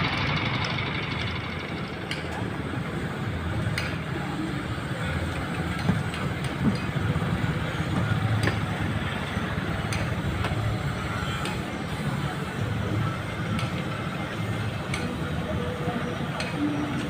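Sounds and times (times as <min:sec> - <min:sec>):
boat diesel engine throbbing: 0:00.0 - 0:17.0.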